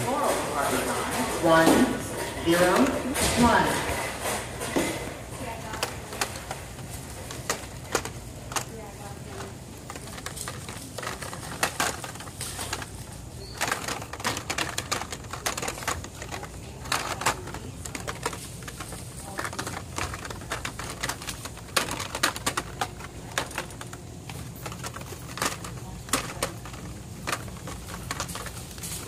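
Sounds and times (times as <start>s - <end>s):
card rattles: 0.2s - 29.0s
plastic packaging clicks: 5.5s - 29.0s.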